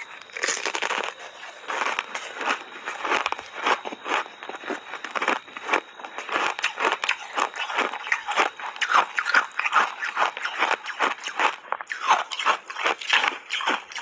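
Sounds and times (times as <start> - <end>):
ice chips being chewed: 0.0 - 14.0.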